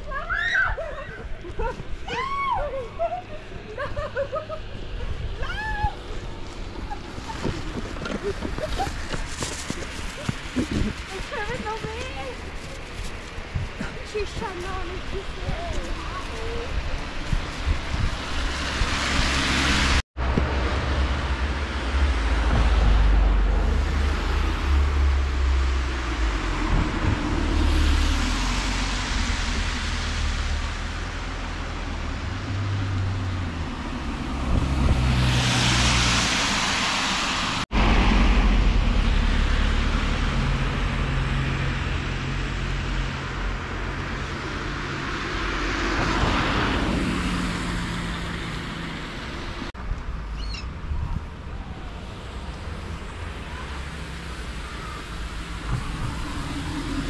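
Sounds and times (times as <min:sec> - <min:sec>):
cars passing: 0:00.0 - 0:57.0
low traffic rumble: 0:00.0 - 0:57.0.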